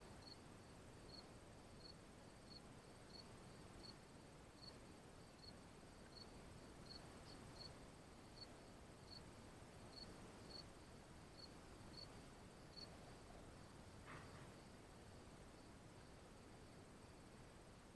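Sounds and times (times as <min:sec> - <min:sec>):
faint cricket chirping: 0:00.0 - 0:17.9.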